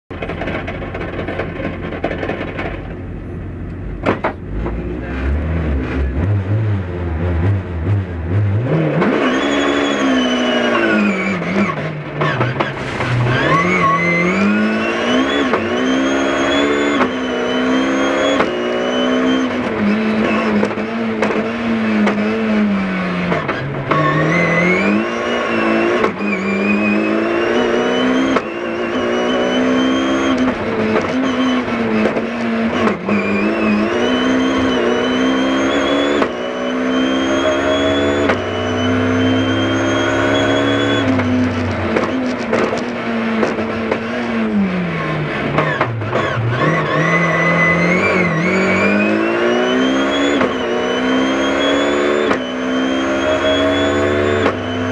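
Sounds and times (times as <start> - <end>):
rally car engine accelerating: 0.1 - 54.9.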